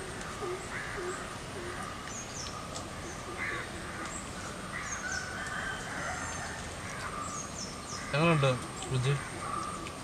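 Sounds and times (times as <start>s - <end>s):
birds calling: 0.0s - 10.0s
small birds high chirps: 0.0s - 10.0s
steady background hiss: 0.0s - 10.0s.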